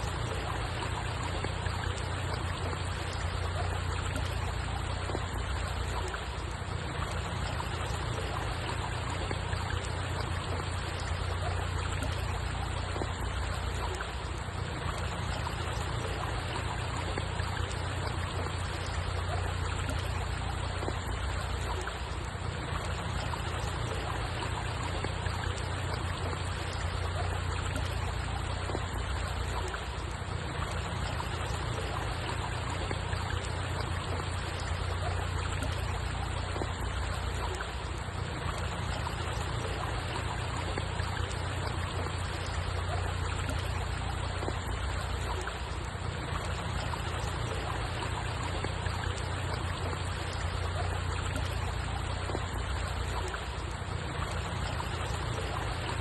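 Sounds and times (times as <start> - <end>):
low steady rumble: 0.0 - 56.0
stream trickling: 0.0 - 56.0.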